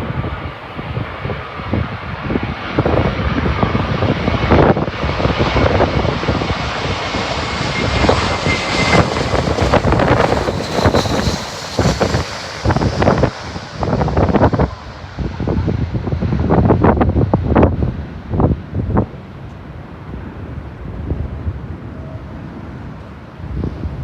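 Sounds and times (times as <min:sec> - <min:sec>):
jet engine noise with whine: 0:00.0 - 0:24.0
wind buffeting microphone: 0:00.0 - 0:24.0.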